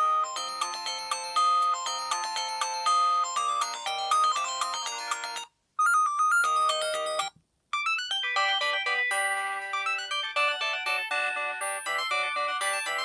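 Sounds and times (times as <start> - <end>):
polyphonic phone ringtones: 0.0 - 13.0.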